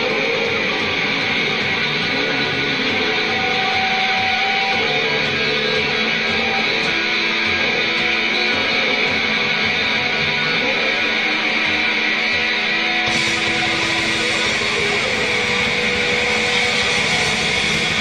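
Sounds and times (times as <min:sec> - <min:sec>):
distorted electric guitar: 0:00.0 - 0:18.0
wall of noise: 0:00.0 - 0:18.0.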